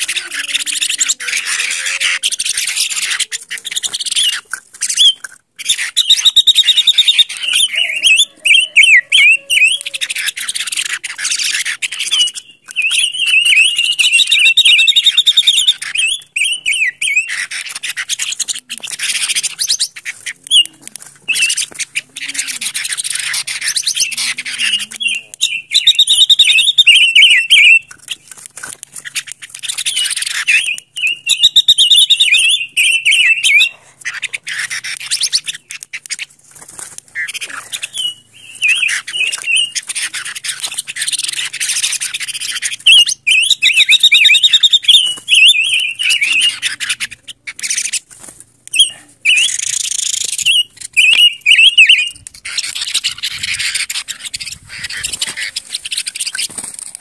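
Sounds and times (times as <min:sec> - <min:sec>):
bird singing warbling phrases: 0:00.0 - 0:48.1, 0:48.7 - 0:57.0.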